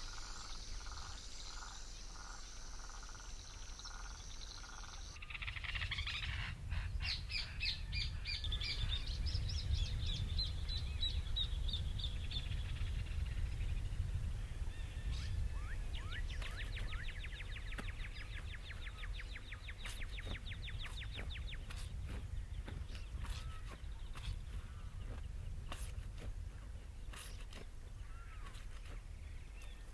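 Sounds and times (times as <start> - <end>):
wild birds calling: 0.0 - 13.6, 14.7 - 29.9.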